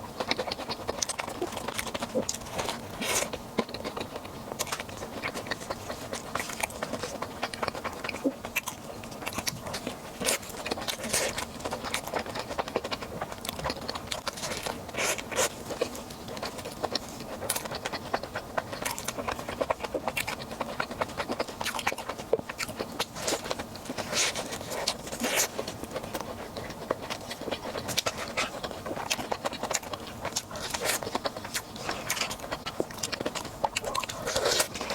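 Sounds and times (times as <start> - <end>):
person chewing crunchy food: 0.0 - 34.9.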